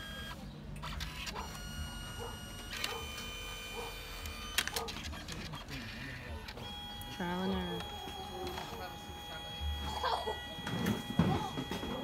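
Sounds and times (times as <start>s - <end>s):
printer feed motor whining: 0.0s - 12.0s.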